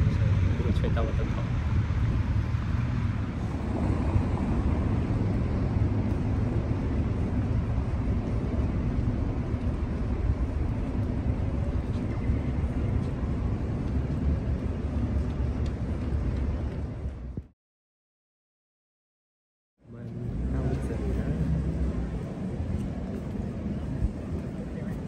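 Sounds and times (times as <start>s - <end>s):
strong wind buffeting microphone: 0.0s - 17.5s, 21.7s - 25.0s.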